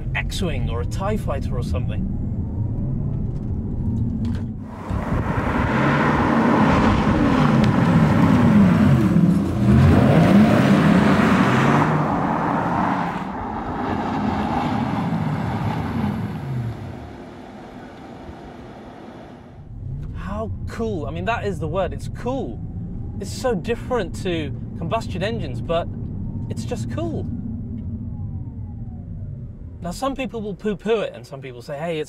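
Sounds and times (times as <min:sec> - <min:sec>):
road and tyre noise: 0:00.0 - 0:31.9
electric car whine gliding in pitch: 0:02.0 - 0:20.7, 0:22.0 - 0:23.4, 0:24.2 - 0:29.8.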